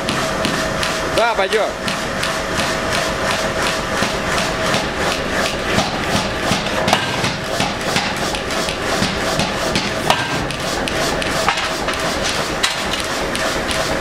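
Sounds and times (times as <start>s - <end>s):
machine hum: 0.0s - 14.0s
power hammer striking steel: 0.0s - 14.0s.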